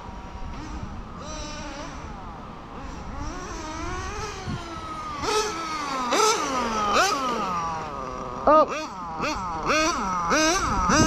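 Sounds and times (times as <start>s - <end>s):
small nitro engine revving: 0.0s - 11.0s.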